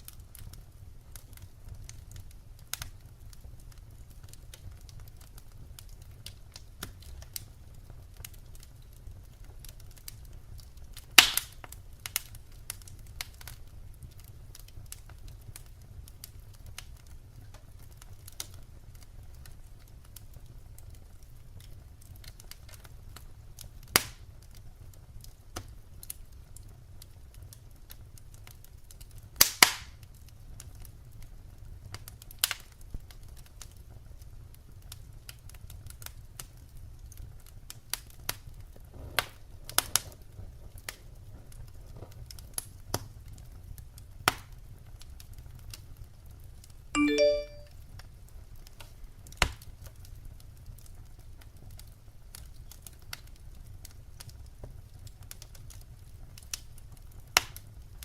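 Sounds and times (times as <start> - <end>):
wood fire crackling: 0.0 - 47.3, 47.9 - 58.0.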